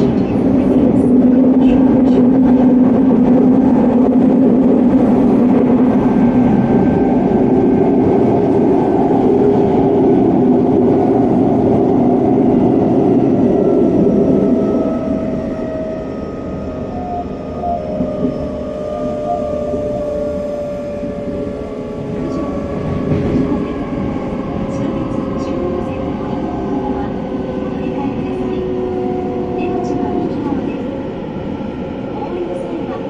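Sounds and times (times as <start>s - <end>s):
train wheels and motors rumbling: 0.0s - 33.0s.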